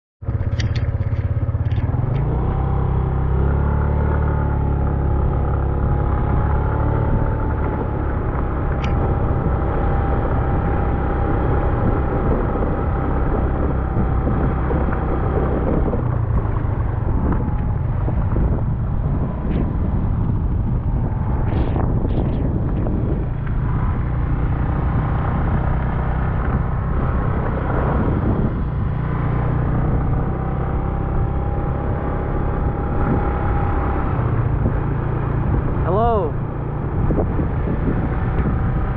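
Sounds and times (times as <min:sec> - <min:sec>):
motorcycle engine running: 0:00.2 - 0:38.9
wind and road noise: 0:00.2 - 0:38.9.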